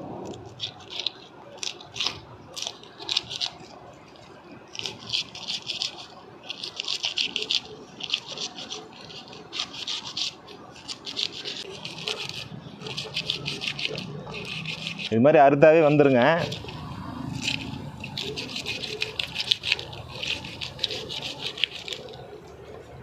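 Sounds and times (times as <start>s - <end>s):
knife scraping fish scales: 0.2s - 15.1s, 16.4s - 22.4s.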